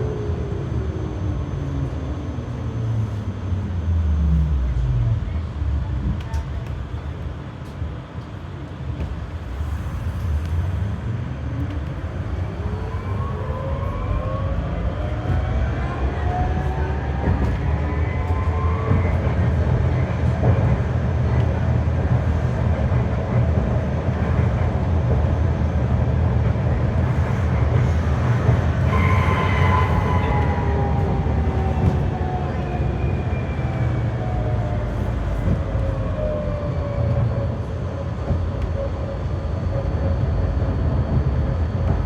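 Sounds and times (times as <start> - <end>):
tram drive whine: 0.0 - 42.0
tram wheels rumbling on rails: 0.0 - 42.0.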